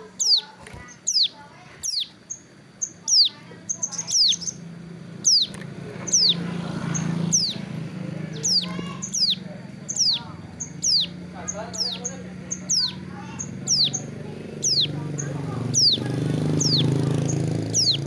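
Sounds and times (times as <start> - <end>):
bird calling high sweeping notes: 0.0 - 18.0
bird chips: 0.0 - 18.0.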